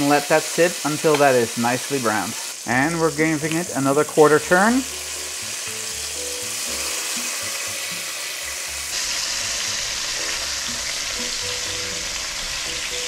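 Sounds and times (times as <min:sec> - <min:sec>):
meat sizzling in butter: 0:00.0 - 0:13.0.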